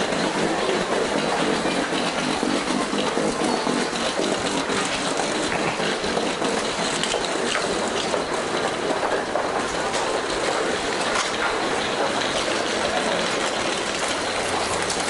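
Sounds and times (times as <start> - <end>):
electric train rumbling on rails: 0.0 - 15.0.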